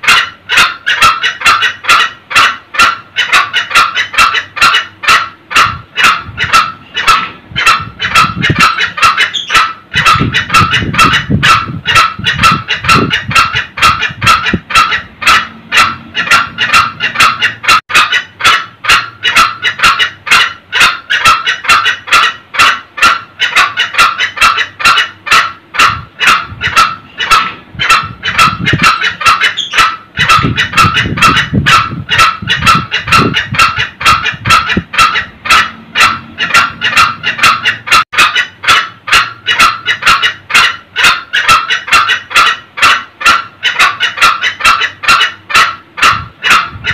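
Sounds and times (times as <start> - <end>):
junglefowl cackling: 0.0 - 46.9.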